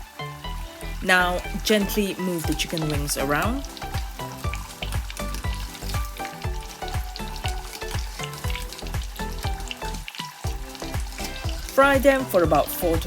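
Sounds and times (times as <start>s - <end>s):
background music with beat: 0.0s - 13.0s
chicken wings sizzling in oil: 0.0s - 13.0s.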